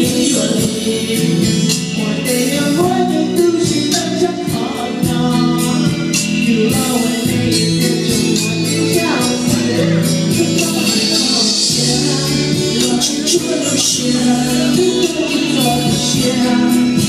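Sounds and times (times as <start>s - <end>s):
backing track with beat: 0.0s - 17.0s
person singing into microphone: 0.0s - 17.0s.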